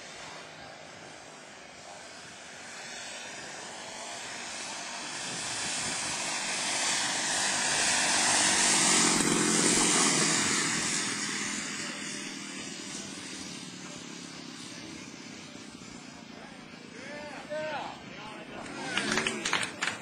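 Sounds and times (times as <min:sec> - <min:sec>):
model airplane engine and propeller: 0:00.0 - 0:20.0.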